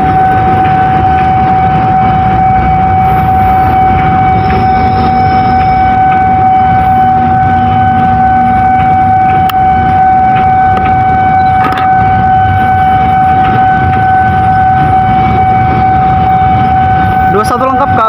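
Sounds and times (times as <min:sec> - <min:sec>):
loud steady high tone: 0:00.0 - 0:18.0
train rumbling: 0:00.0 - 0:18.0.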